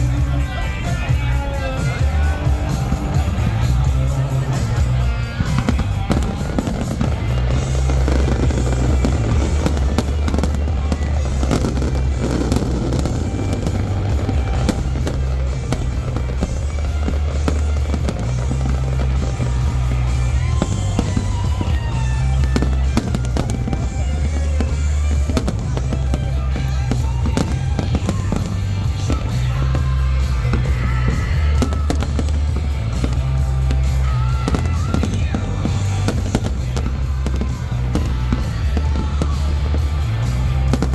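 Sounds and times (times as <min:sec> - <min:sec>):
fireworks bursting and crackling: 0:00.0 - 0:40.9
music with heavy bass: 0:00.0 - 0:40.9.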